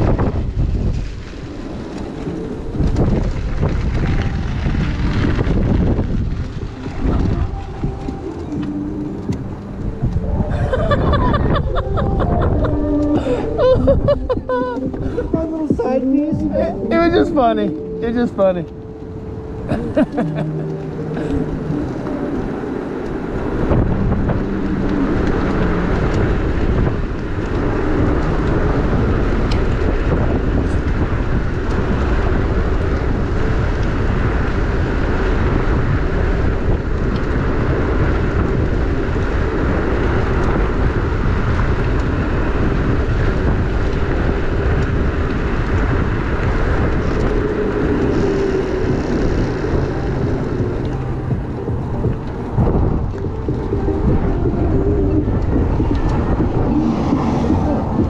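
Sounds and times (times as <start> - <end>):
tyre and road noise: 0.0 - 58.0
wind rushing over microphone: 0.0 - 58.0.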